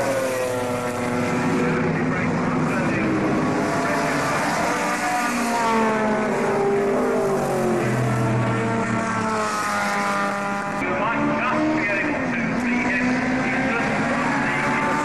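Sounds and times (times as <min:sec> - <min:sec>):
racing cars passing at high revs: 0:00.0 - 0:15.0.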